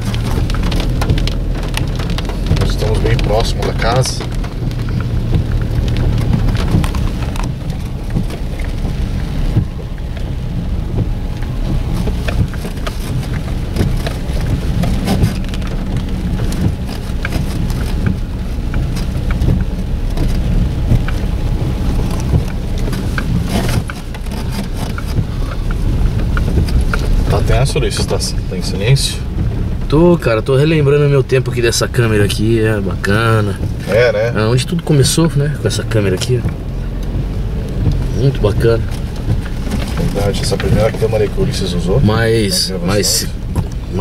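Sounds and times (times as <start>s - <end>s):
car driving on dirt track: 0.0s - 44.0s
rain on car roof: 0.0s - 44.0s.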